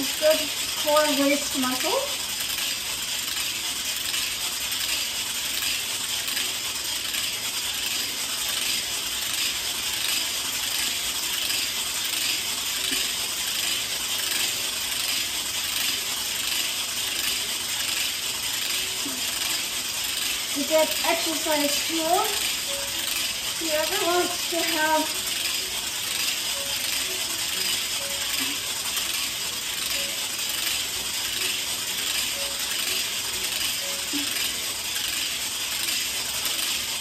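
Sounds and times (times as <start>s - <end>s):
hula hoop roller rattling: 0.0s - 37.0s.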